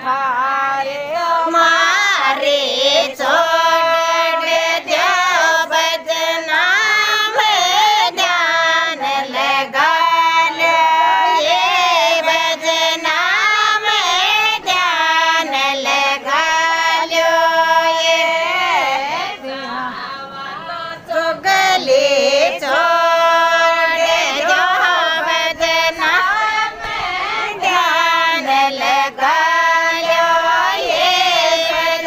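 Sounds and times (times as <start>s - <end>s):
women singing folk song: 0.0s - 32.0s.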